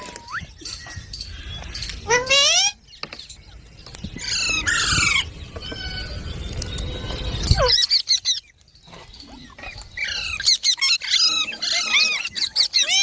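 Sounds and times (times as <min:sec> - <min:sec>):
parakeets squawking and chirping: 0:00.1 - 0:08.5, 0:09.4 - 0:13.0.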